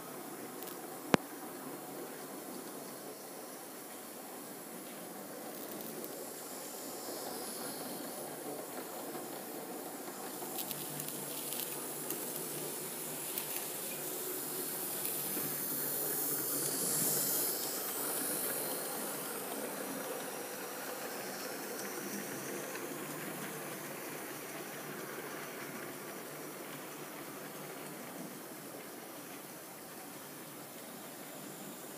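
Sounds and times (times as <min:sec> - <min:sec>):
model trains rumbling on track: 0:00.0 - 0:31.9.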